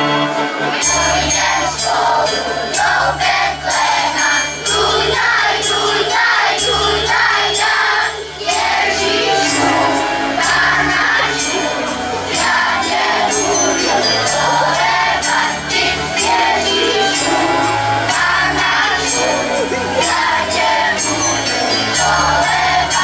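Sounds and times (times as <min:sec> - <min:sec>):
amplified musical accompaniment: 0:00.0 - 0:23.0
children's choir singing: 0:00.0 - 0:23.0.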